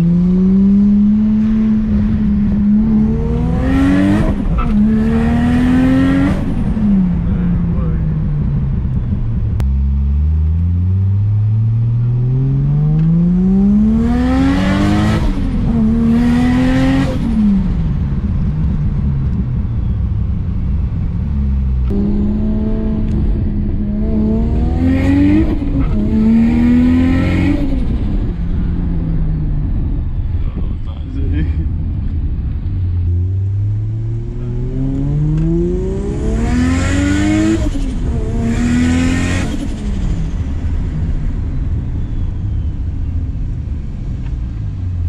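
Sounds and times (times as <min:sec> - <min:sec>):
car engine accelerating hard: 0:00.0 - 0:45.0.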